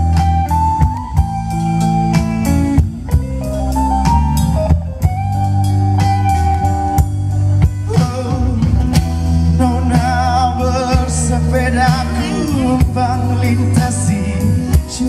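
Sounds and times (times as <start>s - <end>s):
bass: 0.0s - 15.0s
drums: 0.0s - 15.0s
guitar melody of held notes: 0.0s - 15.0s.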